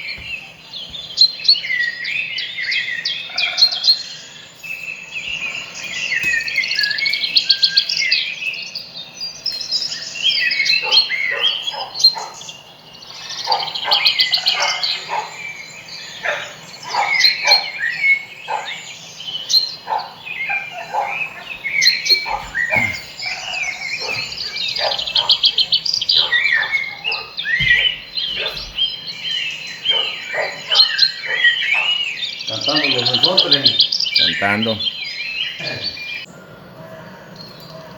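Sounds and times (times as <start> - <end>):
birds chirping and trilling: 0.0 - 37.9.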